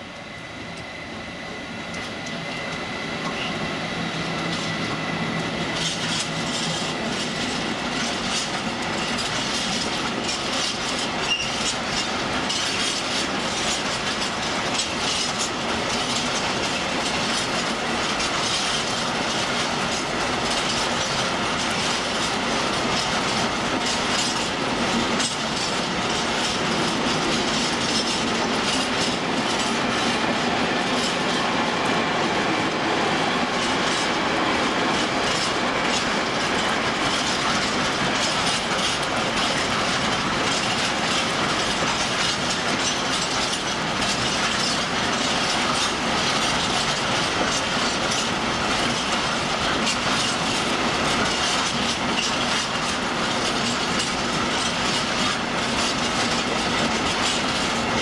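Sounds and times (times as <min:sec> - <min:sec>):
steel wheels rolling on rail: 0:00.0 - 0:58.0
wheels clicking over rail joints: 0:04.3 - 0:58.0.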